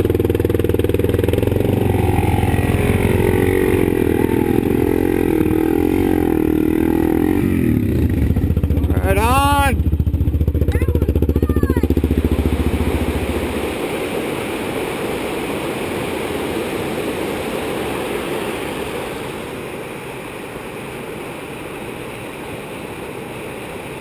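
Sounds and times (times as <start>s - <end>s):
atv engine running: 0.0s - 19.5s
running water from creek and waterfall: 0.0s - 24.0s.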